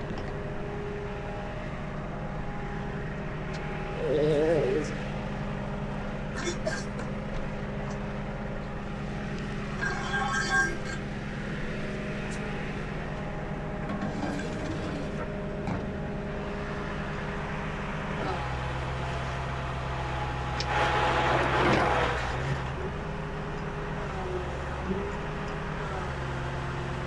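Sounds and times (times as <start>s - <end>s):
tow truck engine running: 0.0s - 27.0s.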